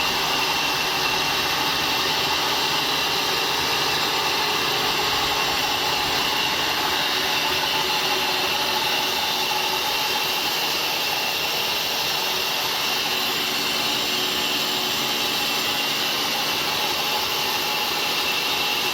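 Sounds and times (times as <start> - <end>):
band saw running: 0.0 - 18.9.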